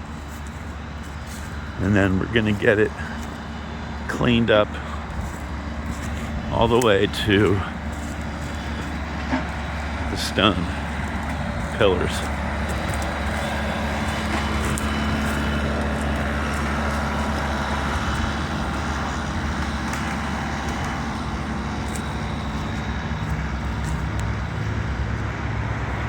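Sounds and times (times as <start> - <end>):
vehicle engine running steadily: 0.0 - 26.0.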